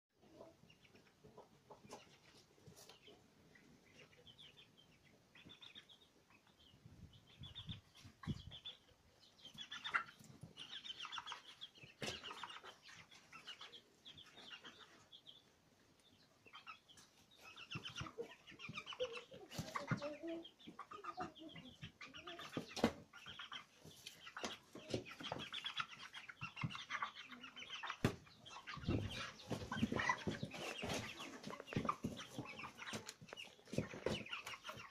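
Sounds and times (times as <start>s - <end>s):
chicks peeping and clucking: 0.2s - 34.9s.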